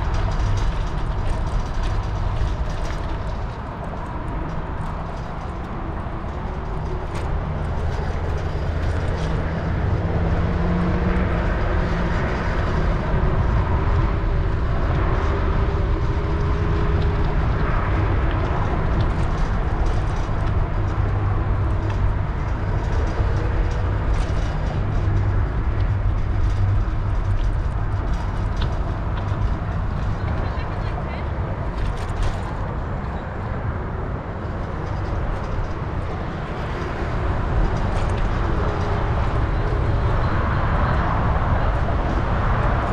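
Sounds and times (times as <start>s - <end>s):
faint passing traffic: 0.0s - 42.9s
wind and tyre rumble: 0.0s - 42.9s.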